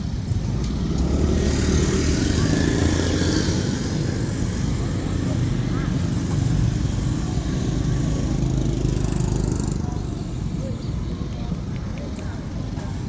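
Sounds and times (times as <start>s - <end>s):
faint distant voices: 0.4s - 13.0s.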